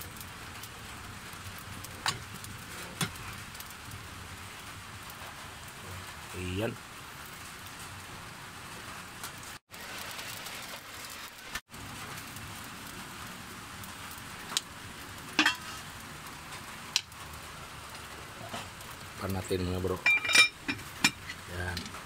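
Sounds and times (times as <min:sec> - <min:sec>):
rain hissing: 0:00.0 - 0:22.0
wood fire burning: 0:00.0 - 0:22.0.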